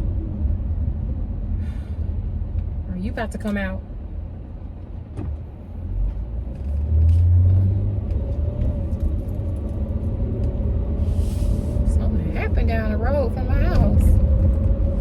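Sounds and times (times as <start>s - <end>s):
car rumbling from inside: 0.0s - 15.0s.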